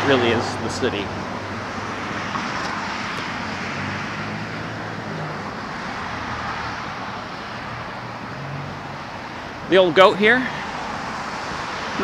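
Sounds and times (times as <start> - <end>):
cars passing: 0.0 - 12.0
tyre and road noise: 0.0 - 12.0.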